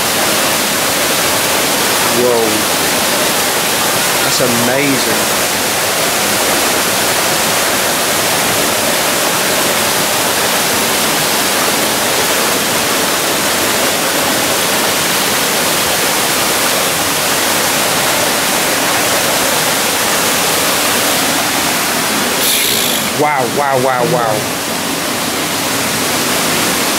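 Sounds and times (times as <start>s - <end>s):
waterfall rushing over rocks: 0.0s - 26.9s.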